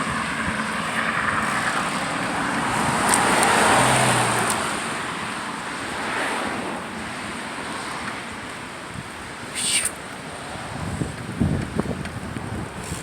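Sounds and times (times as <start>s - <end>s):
car passing: 0.0s - 11.2s.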